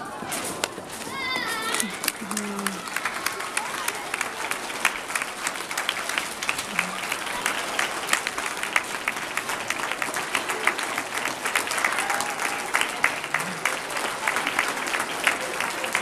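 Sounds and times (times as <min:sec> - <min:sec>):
crowd applauding: 0:00.0 - 0:16.0
scattered voices: 0:00.0 - 0:16.0.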